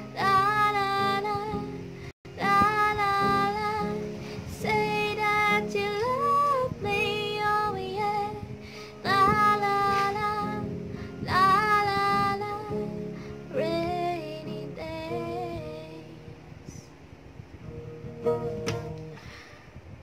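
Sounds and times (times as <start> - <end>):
woman singing slow song: 0.0 - 17.0, 18.0 - 19.3
acoustic guitar: 0.0 - 20.0.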